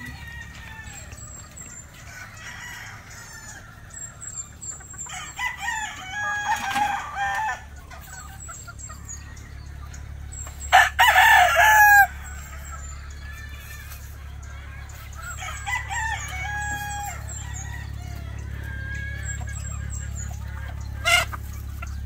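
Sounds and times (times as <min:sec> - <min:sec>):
roosters crowing: 0:00.0 - 0:22.0.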